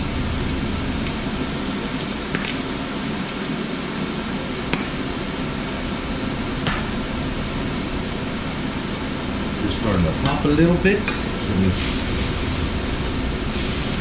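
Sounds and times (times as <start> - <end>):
food frying in a pan: 0.0 - 14.0
range hood fan rushing: 0.0 - 14.0.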